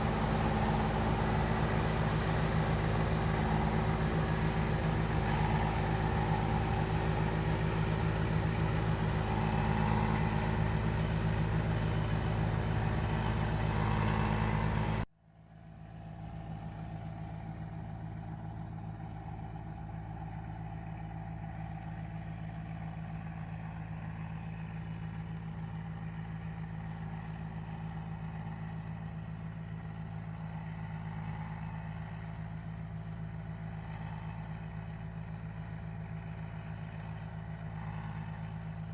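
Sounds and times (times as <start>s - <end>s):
harvester engine humming: 0.0s - 15.1s, 16.5s - 38.9s.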